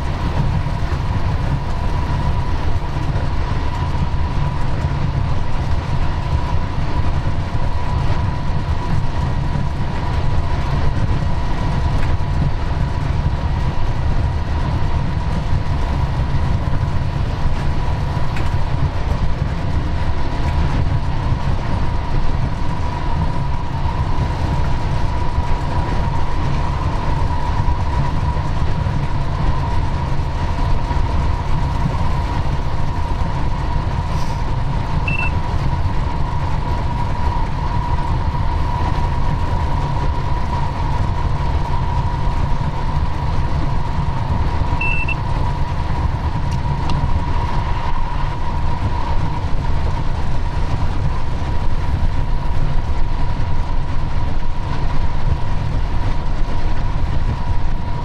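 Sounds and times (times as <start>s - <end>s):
constant high whine: 0.0s - 58.0s
locomotive rumble: 0.0s - 58.0s.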